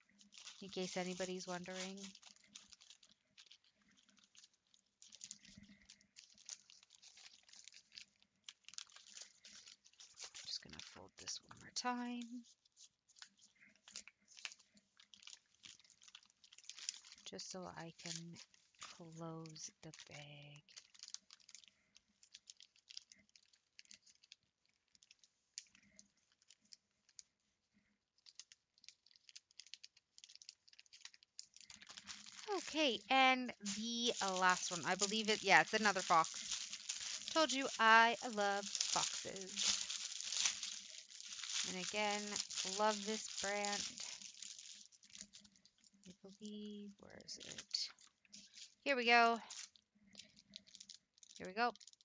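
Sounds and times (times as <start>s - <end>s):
plastic bag crinkling: 0.0s - 27.4s, 28.2s - 52.0s.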